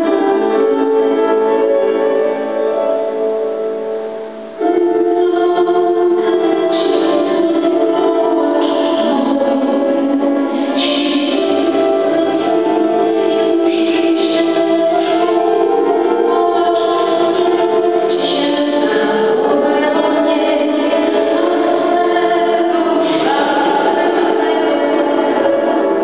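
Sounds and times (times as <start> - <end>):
piano accompaniment: 0.0 - 26.0
woman singing: 4.6 - 26.0.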